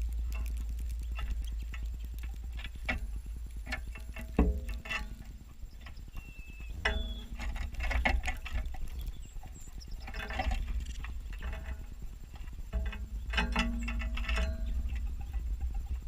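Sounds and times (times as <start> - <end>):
birds pecking on feeder: 0.0 - 16.0
low rumble: 0.0 - 16.0.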